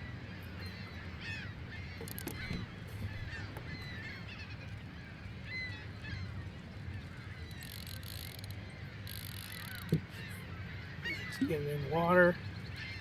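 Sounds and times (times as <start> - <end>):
birds calling: 0.0 - 13.0
low rumble of wind and water: 0.0 - 13.0.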